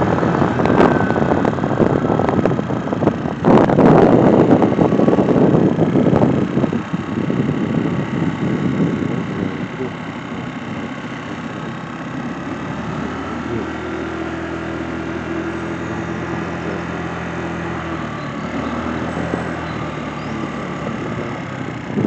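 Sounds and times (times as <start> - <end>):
engine hum: 0.0 - 22.0
road or wind noise: 0.0 - 22.0
vehicle engine running: 0.0 - 22.0.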